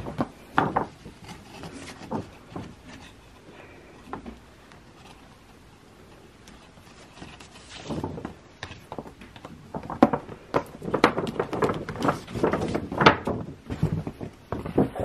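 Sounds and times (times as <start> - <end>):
paper bag rustling: 0.0 - 5.7, 6.3 - 15.0.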